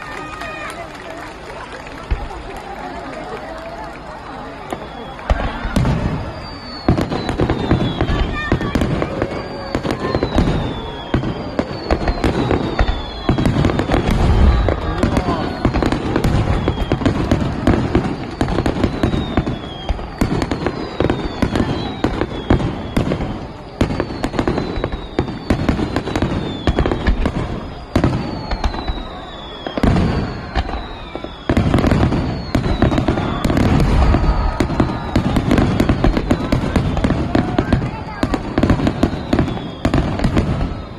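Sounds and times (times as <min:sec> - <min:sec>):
fireworks bangs and crackling: 0:00.0 - 0:40.9
fireworks whistling: 0:00.0 - 0:40.9.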